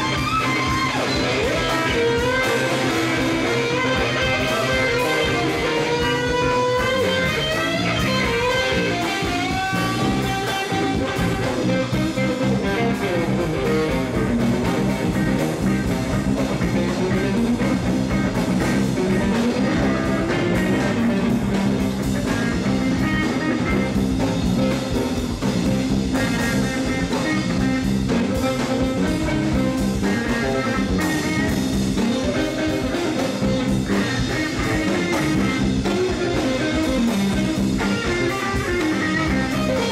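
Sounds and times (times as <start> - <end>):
bass: 0.0 - 39.9
drum kit: 0.0 - 39.9
electric guitars: 0.0 - 39.9
lead guitar bending notes: 0.0 - 39.9.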